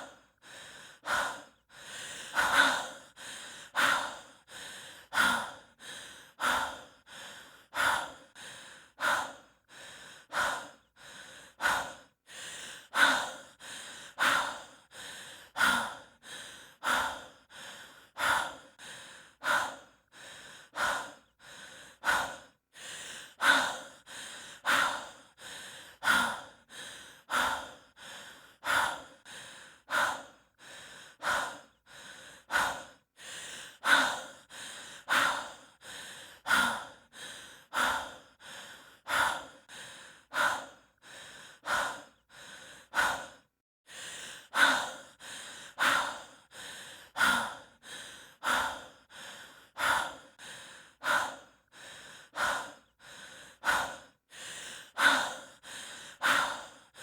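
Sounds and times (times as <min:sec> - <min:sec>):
person breathing heavily: 0:00.0 - 0:57.0.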